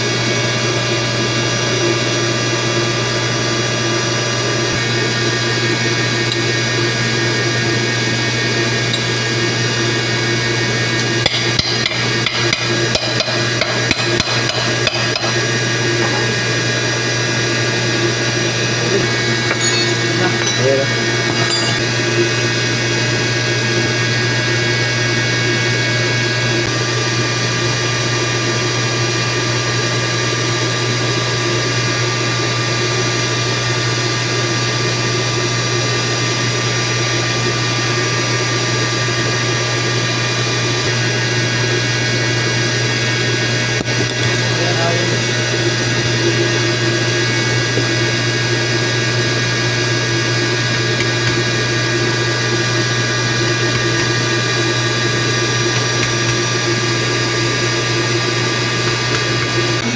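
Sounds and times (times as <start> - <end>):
electric pump motors humming: 0.0 - 59.9.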